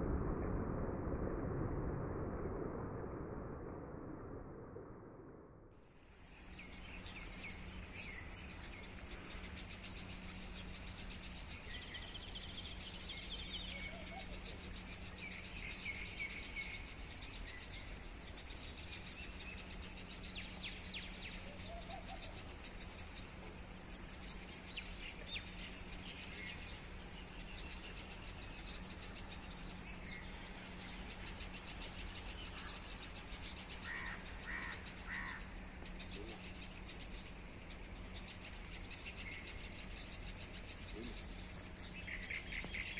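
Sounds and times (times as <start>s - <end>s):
steady low hum: 0.0s - 42.9s
small birds chirping: 6.0s - 42.9s.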